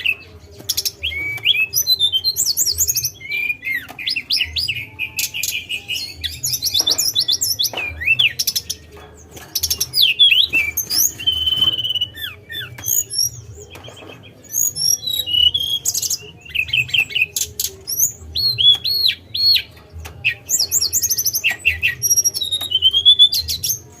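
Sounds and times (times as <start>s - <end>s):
flycatcher singing whistles and trills: 0.0s - 23.9s.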